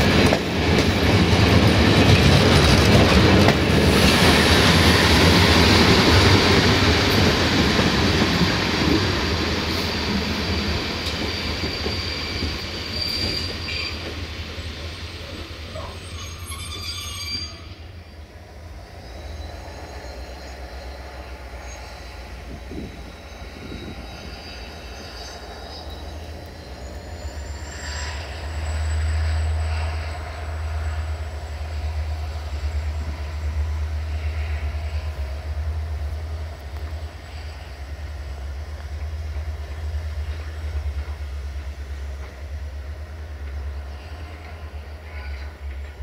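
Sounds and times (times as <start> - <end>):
locomotive engine rumbling: 0.0 - 46.0.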